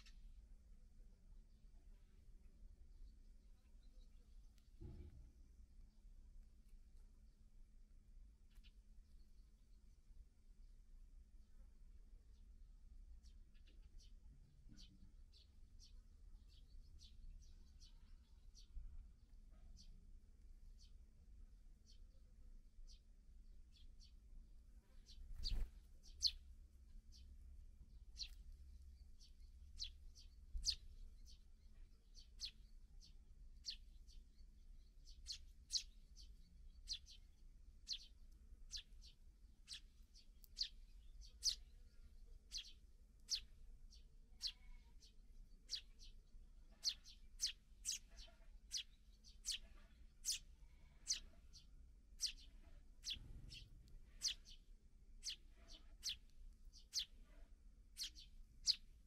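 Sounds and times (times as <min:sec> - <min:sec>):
sparrows chirping: 0:00.0 - 0:59.0.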